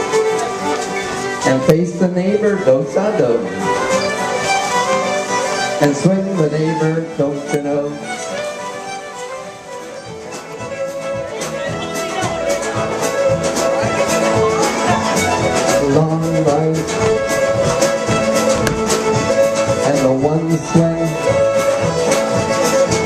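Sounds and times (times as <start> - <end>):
fiddle dance music: 0.0 - 23.0.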